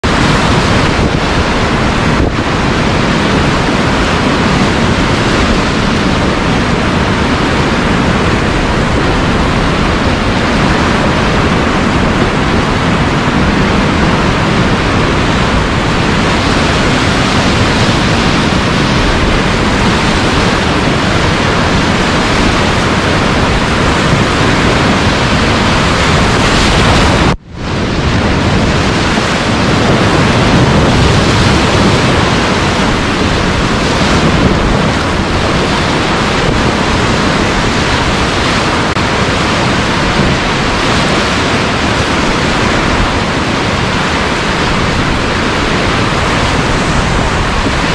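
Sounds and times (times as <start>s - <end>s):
whitewater rapids rushing: 0.0s - 47.9s.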